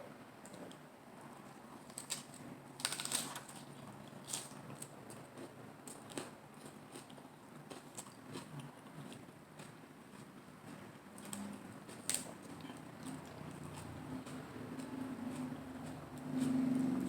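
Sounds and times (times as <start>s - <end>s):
lettuce wrap crunching when chewed: 1.8s - 17.0s.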